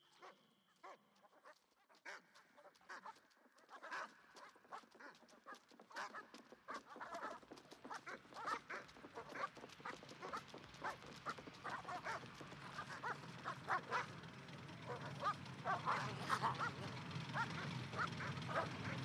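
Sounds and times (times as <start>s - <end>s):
animals calling: 2.0s - 19.0s.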